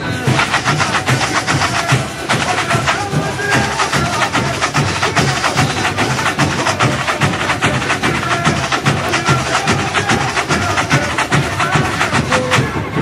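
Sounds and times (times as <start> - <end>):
bass drums beating: 0.0 - 13.0
snare and small drum patter: 0.0 - 13.0.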